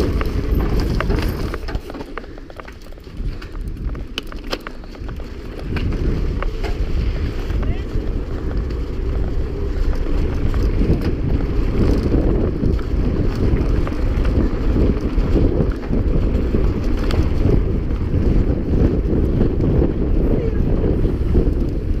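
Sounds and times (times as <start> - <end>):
bike clicks and rattles: 0.0 - 22.0
wind buffeting microphone: 0.0 - 22.0.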